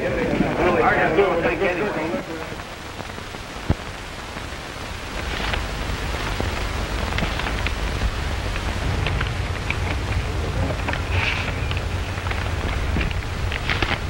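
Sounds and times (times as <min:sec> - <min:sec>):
film soundtrack hiss and crackle: 0:00.0 - 0:14.0
low hum: 0:00.0 - 0:14.0.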